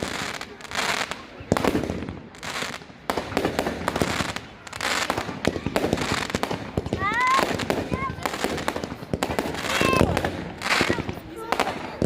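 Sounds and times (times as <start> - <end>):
firework bangs and crackles: 0.0 - 12.0
fireworks hissing: 0.0 - 12.0.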